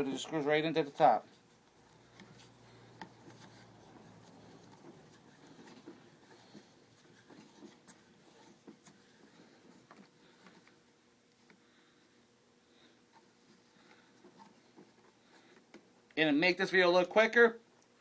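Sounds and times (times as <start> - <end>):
faint rubbing: 0.0 - 15.7.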